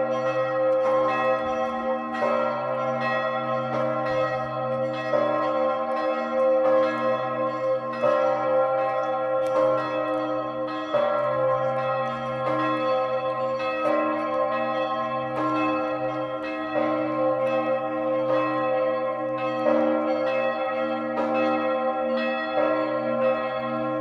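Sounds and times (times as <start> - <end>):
large bell ringing: 0.0 - 24.0.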